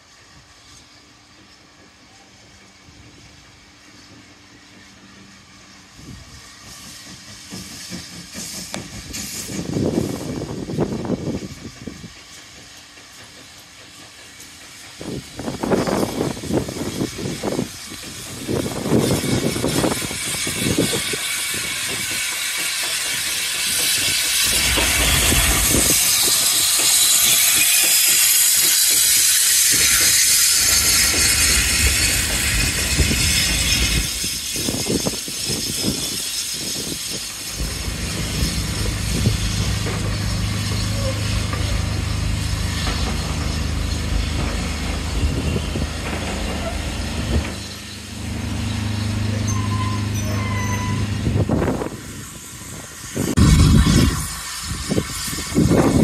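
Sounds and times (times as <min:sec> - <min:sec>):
steam hissing: 0:00.0 - 0:56.0
steam locomotive passing: 0:00.0 - 0:56.0
train wheels rumbling and knocking: 0:00.0 - 0:56.0.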